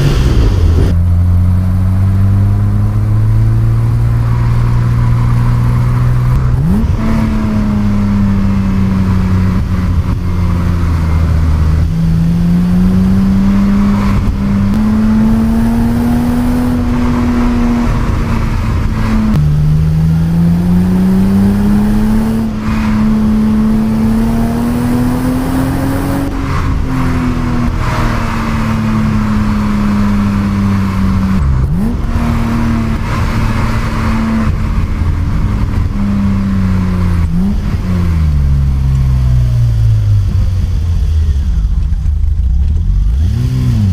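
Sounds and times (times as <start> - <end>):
car engine revving through gears: 0.0 - 43.9.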